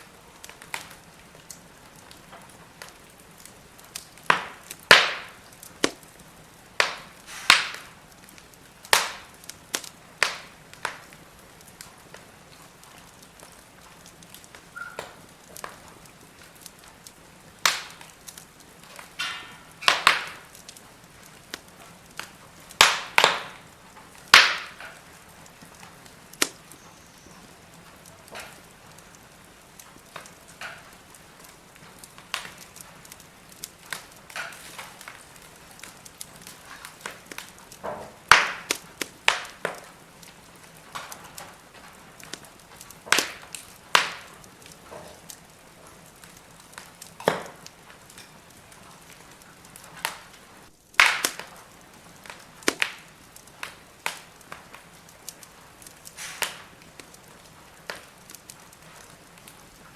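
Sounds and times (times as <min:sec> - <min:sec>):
faint steady hiss: 0:00.0 - 0:59.9
firewood crackling and popping: 0:00.0 - 0:59.9.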